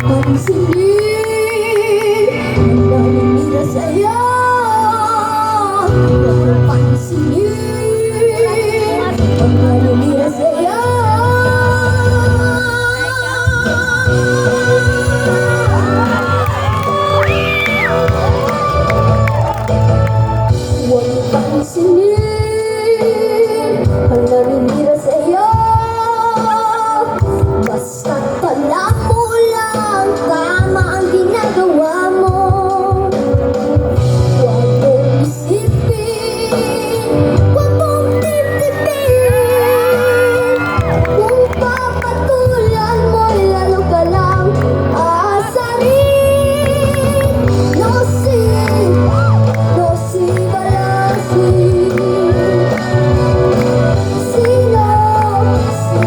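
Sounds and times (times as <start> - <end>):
girl singing with vibrato: 0.0 - 19.3, 20.7 - 56.0
band backing track: 0.0 - 56.0.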